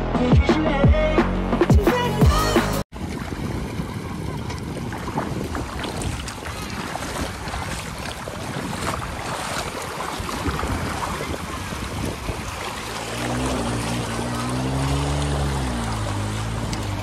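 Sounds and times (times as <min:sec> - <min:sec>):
water splashing and sloshing: 0:02.9 - 0:17.0
wind on microphone: 0:03.0 - 0:17.0.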